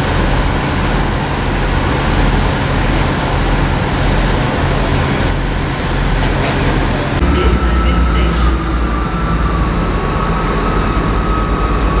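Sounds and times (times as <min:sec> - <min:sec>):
railcar diesel engines droning: 0:00.0 - 0:12.0
thin high whine: 0:00.0 - 0:12.0.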